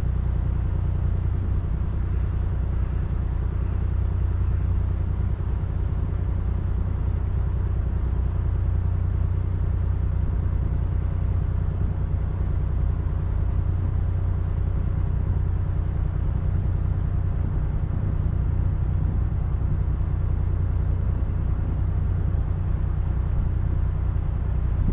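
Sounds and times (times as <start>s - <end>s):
boat diesel engine droning: 0.0s - 24.9s.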